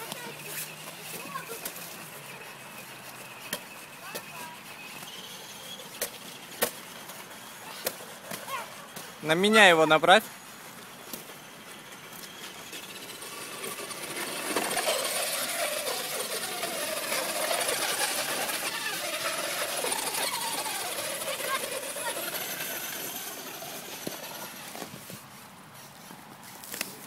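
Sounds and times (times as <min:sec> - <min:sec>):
toy truck motor whining: 0:00.0 - 0:25.2.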